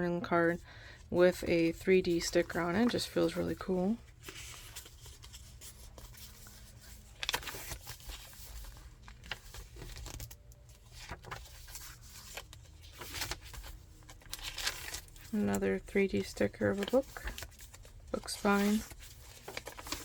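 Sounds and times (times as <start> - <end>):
paper rustling and crinkling: 1.6 - 20.0.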